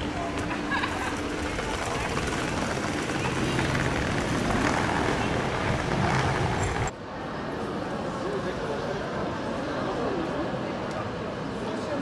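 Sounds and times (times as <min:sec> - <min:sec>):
people talking: 0:00.0 - 0:12.0
traffic noise: 0:00.0 - 0:12.0.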